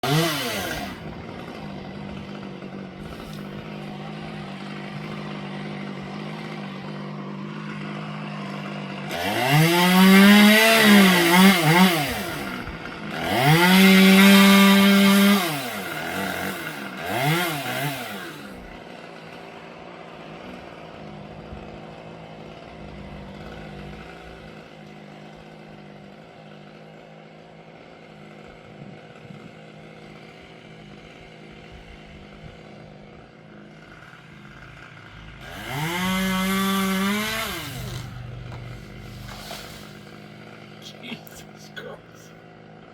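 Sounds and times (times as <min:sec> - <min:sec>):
chainsaw idling and revving: 0:00.0 - 0:42.9.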